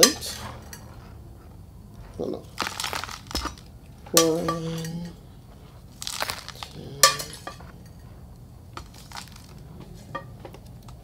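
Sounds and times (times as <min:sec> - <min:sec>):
potting mix crunching: 0:00.0 - 0:11.0.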